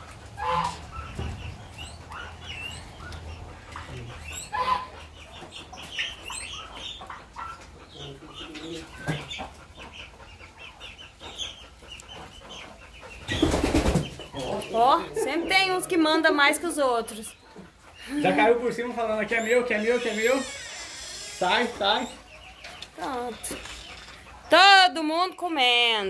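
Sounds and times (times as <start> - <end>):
chickens and chicks peeping and clucking: 0.0 - 26.0.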